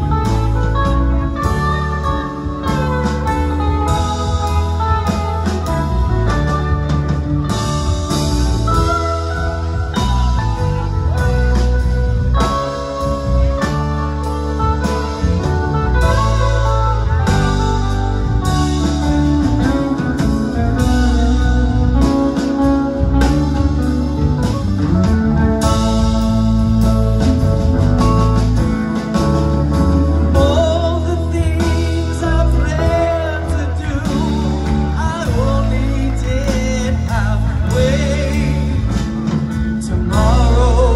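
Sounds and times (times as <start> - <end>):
electric guitar: 0.0 - 40.9
live rock band playing: 0.0 - 40.9.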